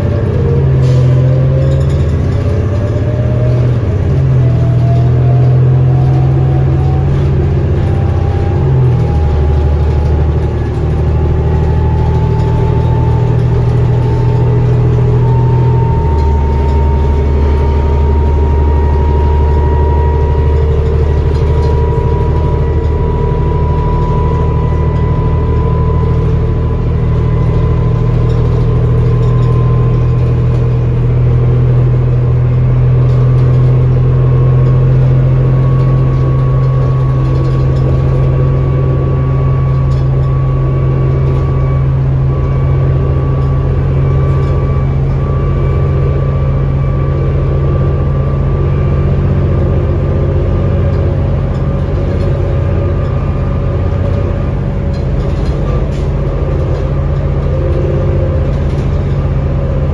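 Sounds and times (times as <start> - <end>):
bus diesel engine drone: 0.0 - 59.9
rising engine whine: 0.0 - 59.9.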